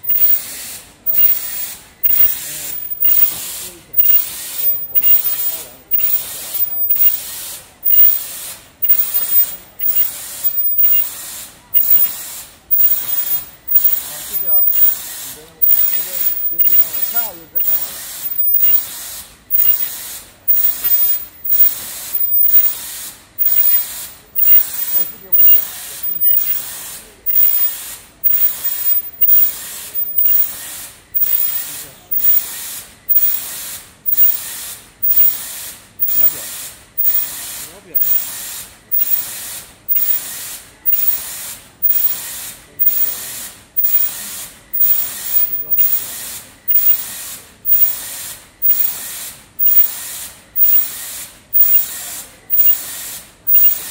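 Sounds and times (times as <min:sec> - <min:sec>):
loud bursts of air: 0:00.0 - 0:53.9
machine hissing: 0:00.0 - 0:53.9.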